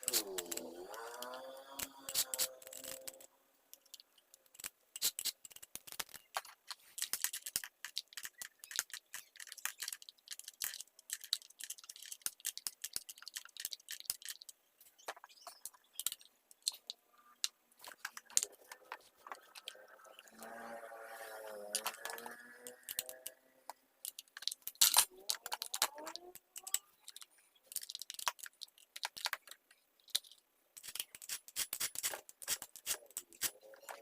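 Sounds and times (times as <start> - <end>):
small parts and tools clinking: 0.0 - 34.0.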